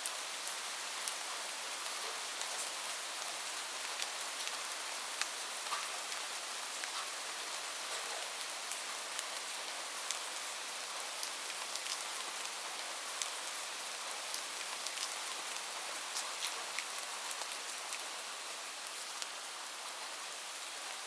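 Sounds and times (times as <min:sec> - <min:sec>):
light rain hiss: 0:00.0 - 0:21.0
raindrops ticking on a surface: 0:00.0 - 0:21.0.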